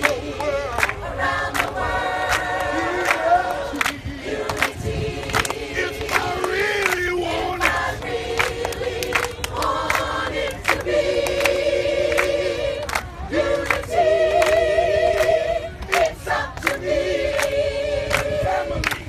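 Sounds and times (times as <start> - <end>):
choir singing: 0.0 - 19.0
people clapping in time: 0.0 - 19.0.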